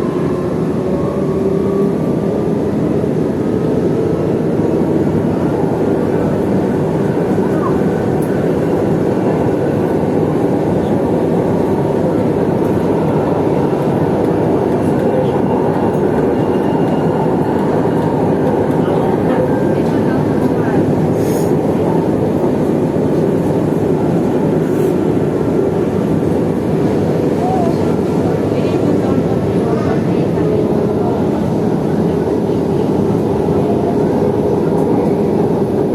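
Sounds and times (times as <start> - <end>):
light rail train rumbling: 0.0 - 35.9.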